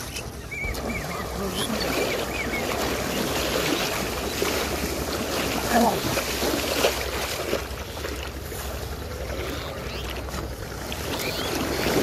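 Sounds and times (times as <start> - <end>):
people wading through splashing water: 0.0 - 12.0.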